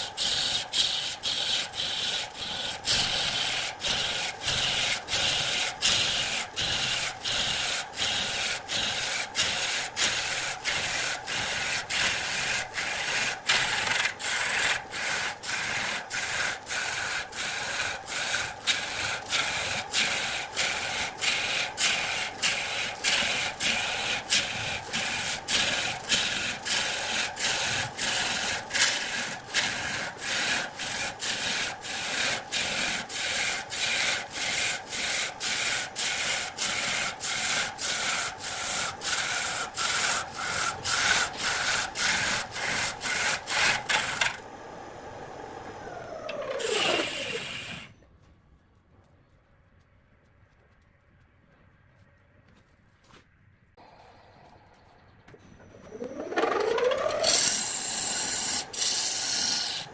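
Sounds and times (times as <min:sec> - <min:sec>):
turning gouge scraping wood: 0:00.0 - 0:44.4, 0:46.2 - 0:47.9, 0:55.9 - 0:59.9.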